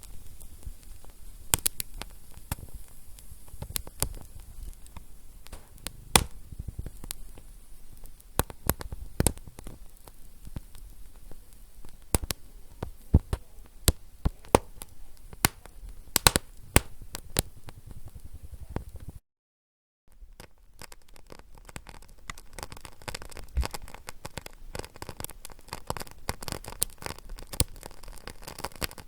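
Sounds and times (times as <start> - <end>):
fire crackling and popping: 0.0 - 19.2, 20.3 - 29.0.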